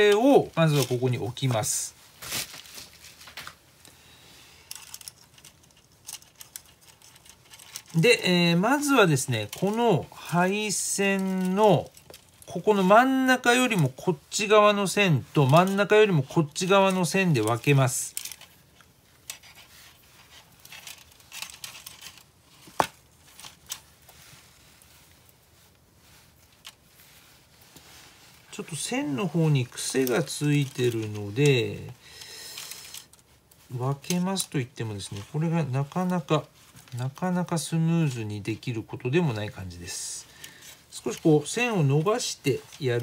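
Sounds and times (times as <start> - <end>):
soft rustling of wires: 0.0 - 43.0.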